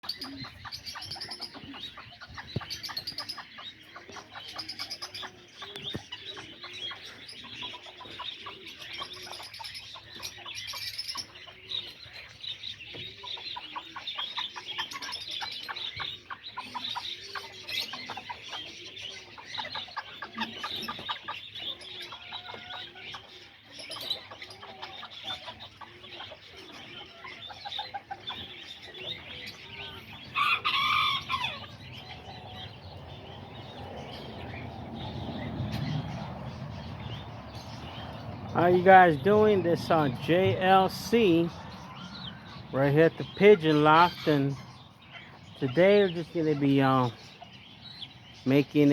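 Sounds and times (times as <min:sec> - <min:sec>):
birds chirping: 0:00.0 - 0:48.9
chickens clucking: 0:00.0 - 0:48.9.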